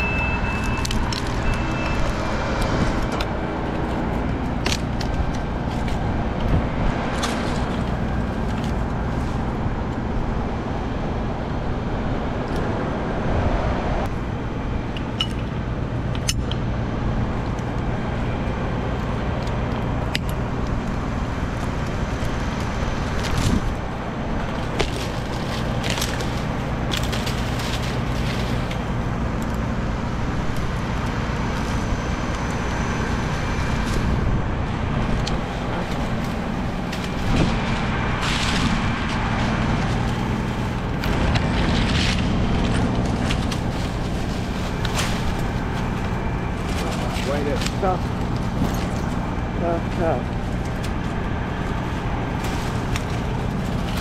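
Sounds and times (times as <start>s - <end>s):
large engine droning: 0.0s - 54.0s.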